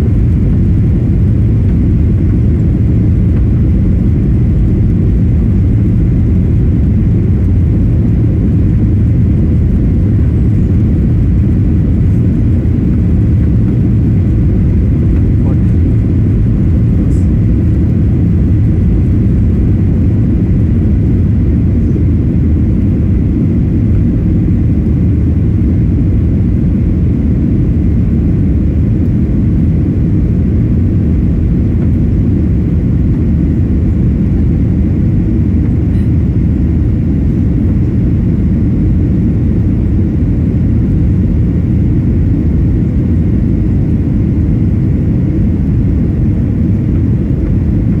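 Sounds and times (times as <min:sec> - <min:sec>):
faint steady whine: 0:00.0 - 0:48.0
jet engines rumbling in cabin: 0:00.0 - 0:48.0.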